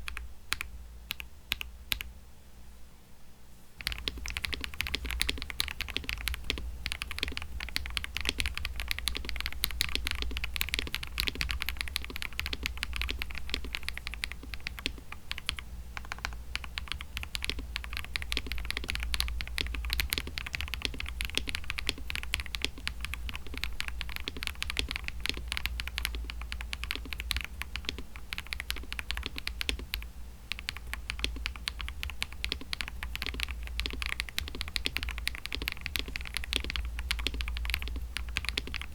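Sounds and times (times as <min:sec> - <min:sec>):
mechanical keyboard typing: 0:00.0 - 0:02.1, 0:03.8 - 0:38.9
steady low hum: 0:00.0 - 0:38.9.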